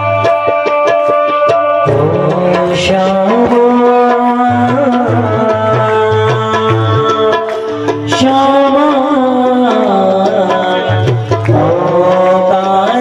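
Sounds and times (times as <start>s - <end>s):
hand drum beat: 0.0s - 13.0s.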